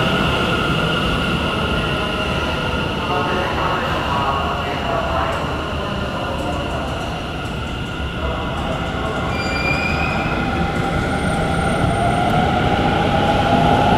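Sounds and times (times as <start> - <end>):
subway train rumbling: 0.0 - 13.9.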